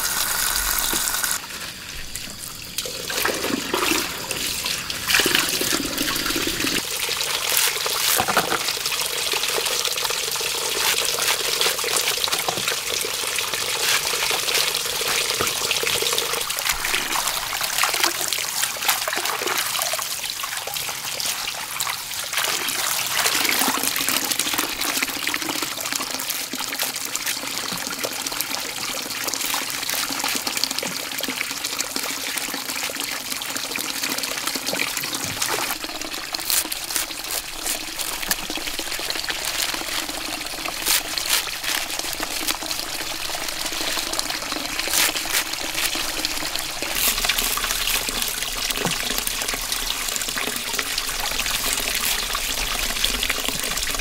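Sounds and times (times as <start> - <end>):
water pouring and splashing: 0.0 - 54.0.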